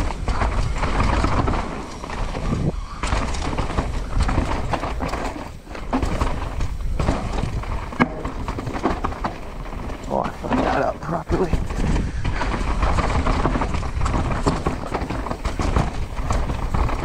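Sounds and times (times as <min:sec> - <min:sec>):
mountain bike knocks and rattles: 0:00.0 - 0:17.0.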